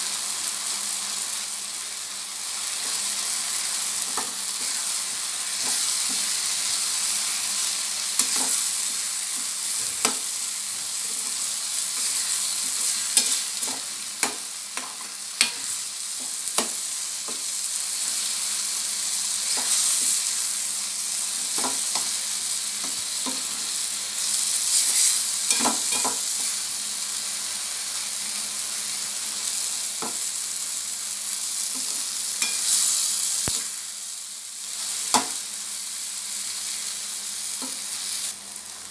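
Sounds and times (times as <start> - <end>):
food sizzling in pan: 0.0 - 38.9.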